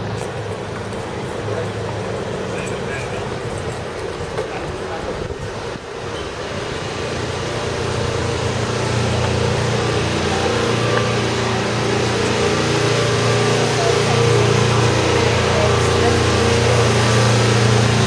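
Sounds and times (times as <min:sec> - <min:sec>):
engine humming: 0:00.0 - 0:18.0
street noise: 0:00.0 - 0:18.0.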